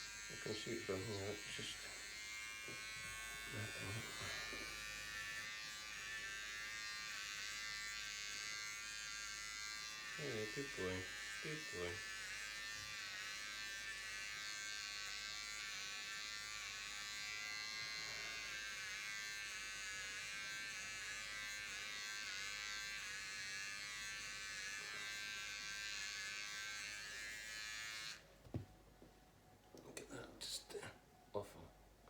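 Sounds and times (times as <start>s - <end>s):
electric hair clippers buzzing: 0.0s - 28.6s.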